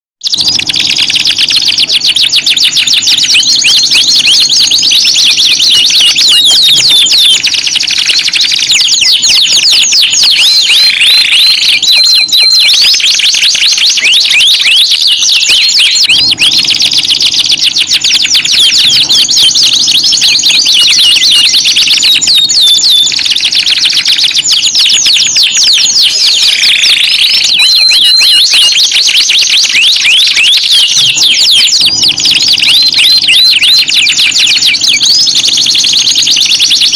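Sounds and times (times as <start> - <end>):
canary singing: 0.2 - 36.9.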